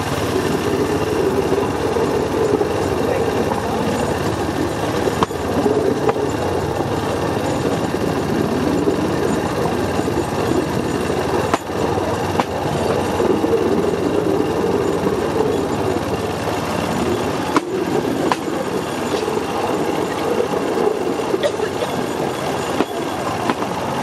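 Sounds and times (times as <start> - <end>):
rail cart rattling rumble: 0.0 - 24.0.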